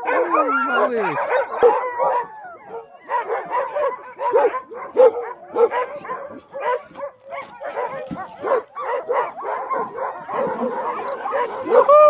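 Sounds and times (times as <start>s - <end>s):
sled dogs barking and yelping: 0.0s - 12.0s.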